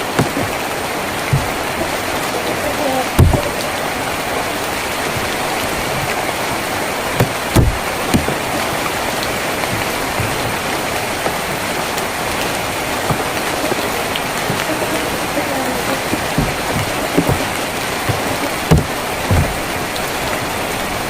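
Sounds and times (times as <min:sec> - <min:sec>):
heavy drops thudding: 0:00.0 - 0:02.3, 0:03.1 - 0:20.6
rain drumming on a tin roof: 0:00.0 - 0:21.0.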